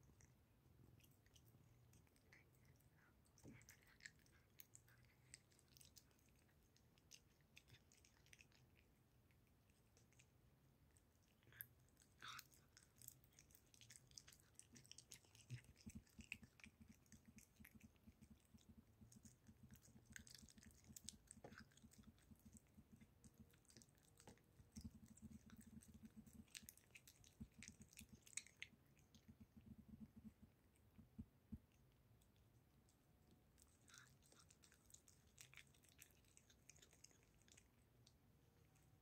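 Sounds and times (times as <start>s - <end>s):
cat licking and chewing: 0.0s - 39.0s.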